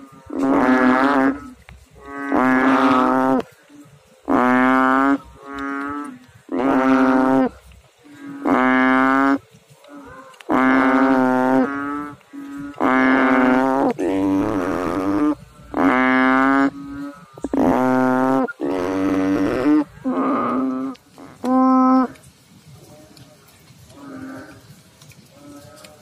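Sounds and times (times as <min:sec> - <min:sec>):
frog calling: 0:00.0 - 0:03.6, 0:04.2 - 0:22.2.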